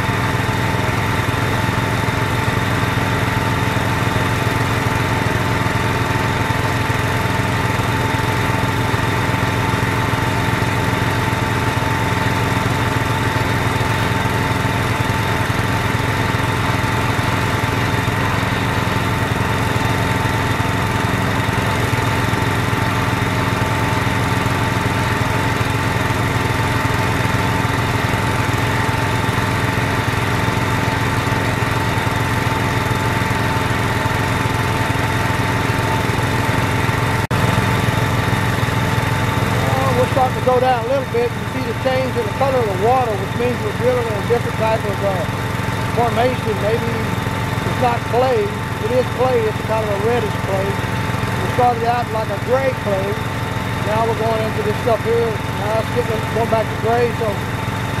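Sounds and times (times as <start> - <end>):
drilling rig engine running: 0.0 - 58.0.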